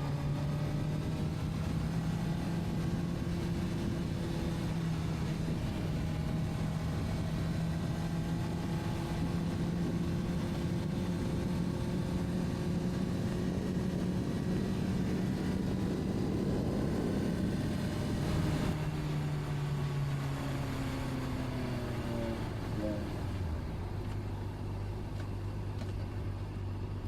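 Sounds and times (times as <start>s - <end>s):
motorcycle engine cruising: 0.0s - 27.0s.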